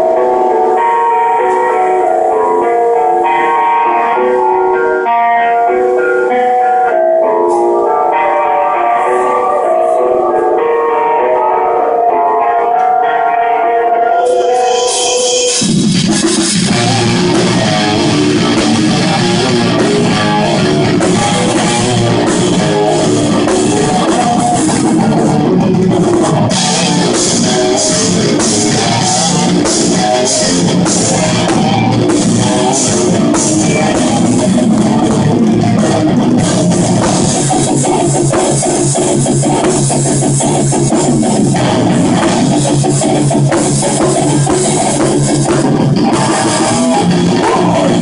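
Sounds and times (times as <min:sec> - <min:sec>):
bass guitar: 0:00.0 - 0:48.0
distorted electric guitars: 0:00.0 - 0:48.0
drum kit: 0:00.0 - 0:48.0.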